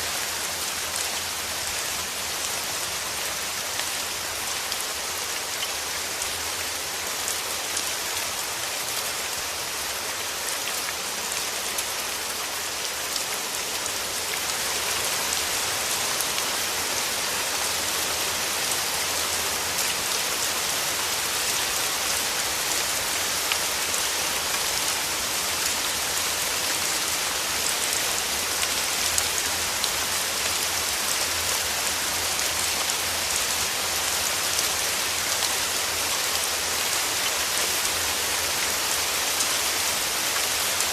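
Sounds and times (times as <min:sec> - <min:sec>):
rain falling on surfaces: 0:00.0 - 0:40.9.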